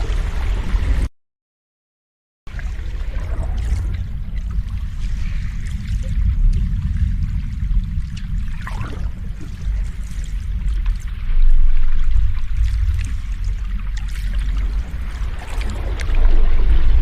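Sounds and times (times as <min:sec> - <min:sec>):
ocean waves washing in: 0:00.0 - 0:01.1, 0:02.5 - 0:17.0.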